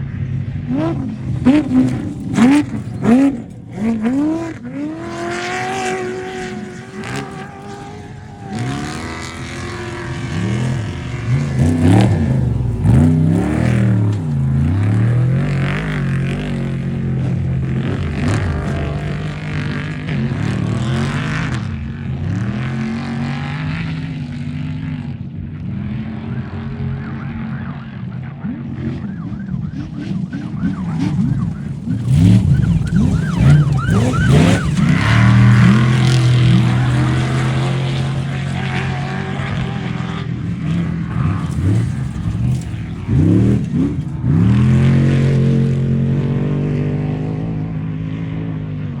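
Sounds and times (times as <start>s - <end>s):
engine revving hard: 0.7s - 23.9s, 29.8s - 47.2s.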